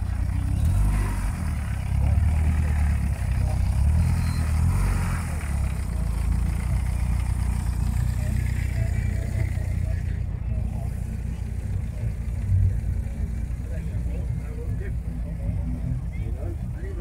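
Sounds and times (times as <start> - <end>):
car engine humming: 0.0 - 17.0
faint voices: 0.0 - 17.0.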